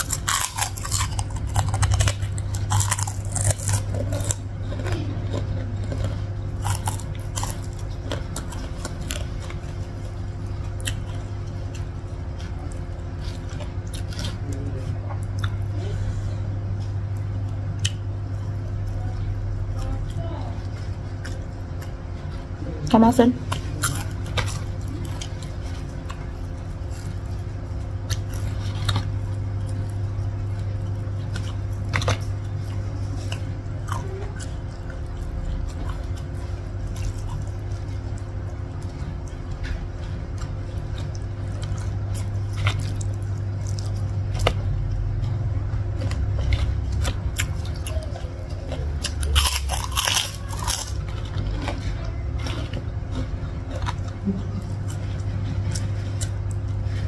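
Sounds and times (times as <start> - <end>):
person chewing crunchy food: 0.0 - 57.0
steady low hum: 0.0 - 57.0.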